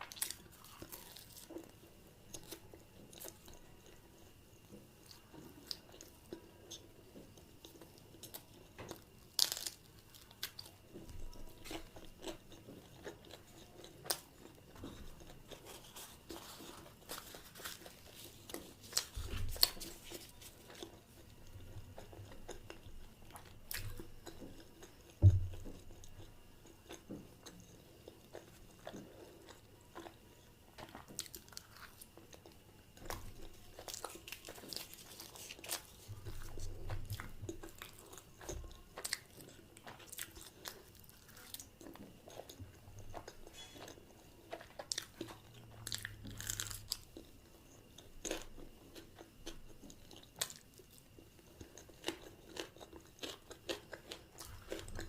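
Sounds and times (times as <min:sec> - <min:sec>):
crisp chewing and biting: 0:00.0 - 0:03.6, 0:07.7 - 0:30.2, 0:30.8 - 0:55.0.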